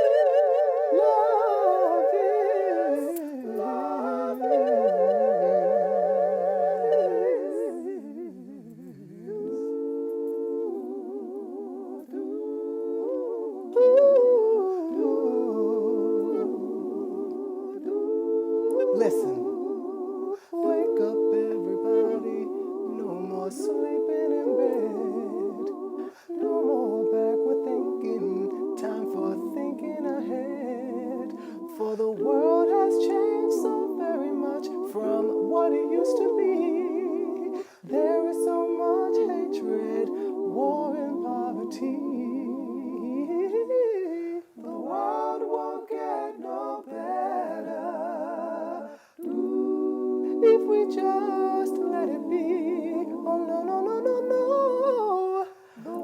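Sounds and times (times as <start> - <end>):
a cappella vocal harmony: 0.0 - 56.0.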